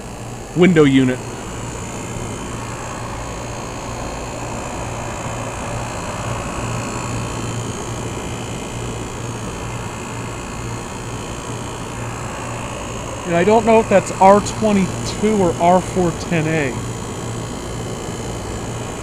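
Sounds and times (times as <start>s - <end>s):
air conditioner fan rushing: 0.0s - 19.0s
low compressor hum: 0.0s - 19.0s.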